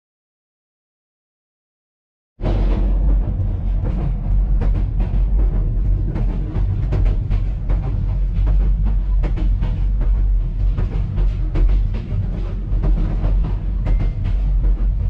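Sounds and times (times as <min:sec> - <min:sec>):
train wheels rumbling: 0:02.4 - 0:15.0.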